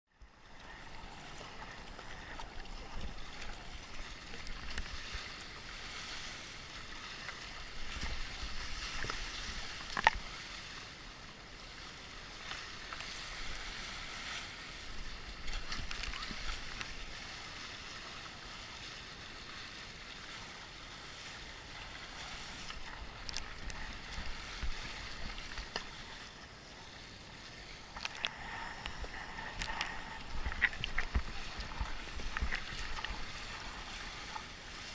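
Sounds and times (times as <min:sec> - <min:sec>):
water splashing along kayak hull: 0:00.1 - 0:34.9.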